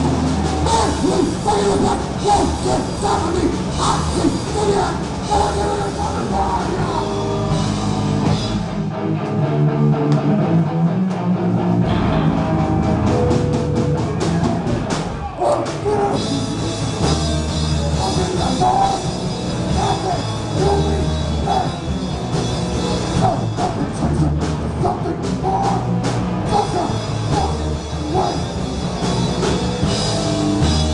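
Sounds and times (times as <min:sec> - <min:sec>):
bass guitar: 0:00.0 - 0:30.9
distorted electric guitar: 0:00.0 - 0:30.9
drum kit: 0:00.0 - 0:30.9.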